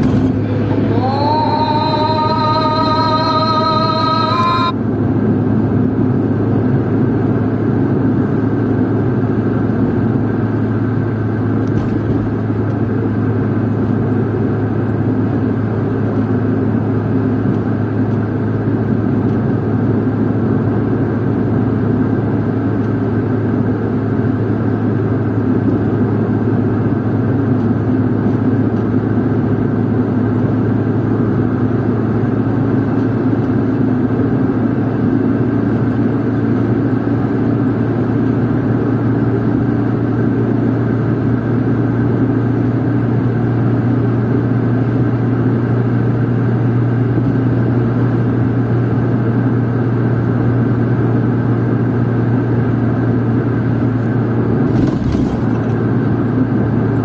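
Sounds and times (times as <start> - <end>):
tyre and road noise: 0.0 - 43.3, 52.5 - 57.0
car engine hum: 0.0 - 57.0.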